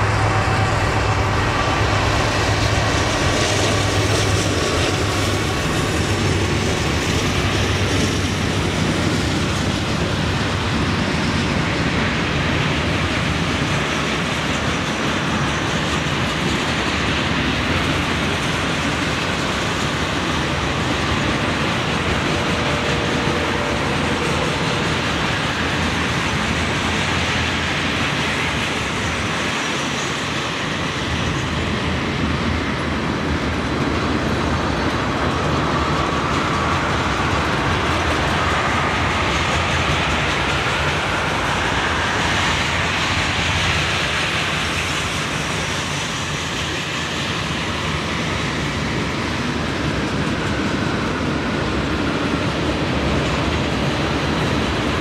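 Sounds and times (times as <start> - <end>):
diesel locomotive passing: 0.0 - 55.0
train wheels on rails: 0.0 - 55.0.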